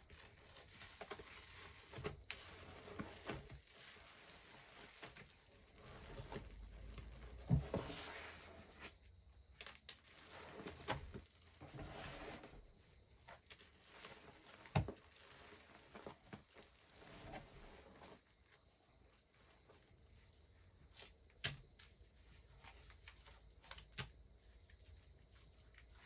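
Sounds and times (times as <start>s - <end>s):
sponges squishing in foamy paste: 0.0s - 26.0s.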